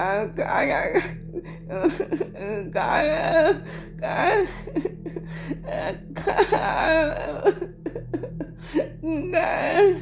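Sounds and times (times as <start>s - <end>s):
girl making wordless vocal sounds: 0.0s - 10.0s.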